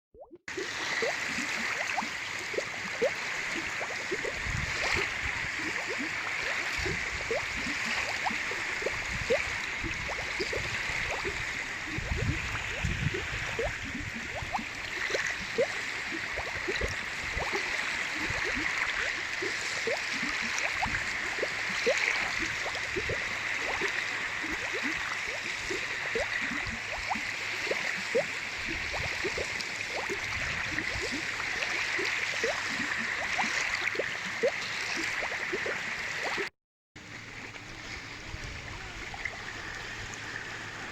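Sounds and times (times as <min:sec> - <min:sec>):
lake waves lapping: 0:00.5 - 0:35.3, 0:37.0 - 0:40.9.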